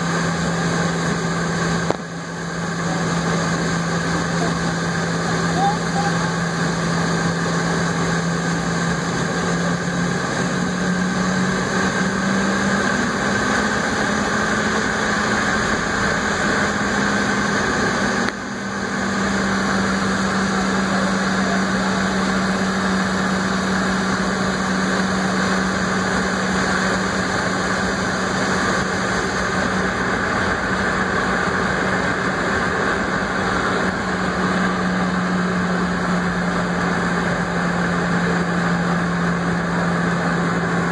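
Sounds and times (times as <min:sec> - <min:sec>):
jet engines heard from cabin: 0:00.0 - 0:40.9.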